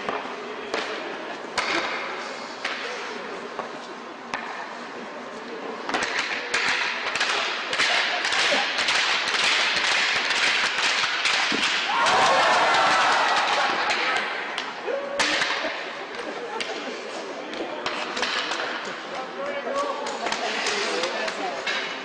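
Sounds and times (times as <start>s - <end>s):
arena crowd chatter: 0.0s - 22.0s.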